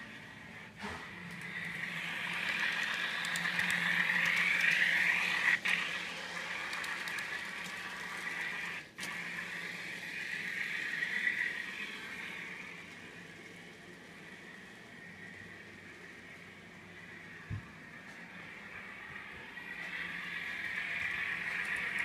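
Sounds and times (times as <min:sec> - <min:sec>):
model train diesel engine sound: 0:00.0 - 0:22.0.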